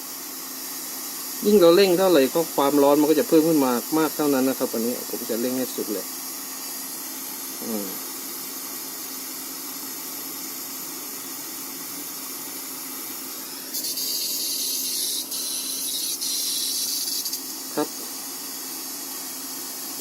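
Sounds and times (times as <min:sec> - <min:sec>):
soldering iron gas hissing: 0:00.0 - 0:20.0.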